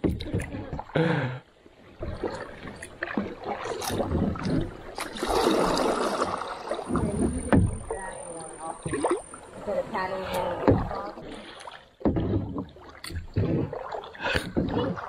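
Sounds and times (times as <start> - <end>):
kayak paddle splashing water: 0.0 - 15.0.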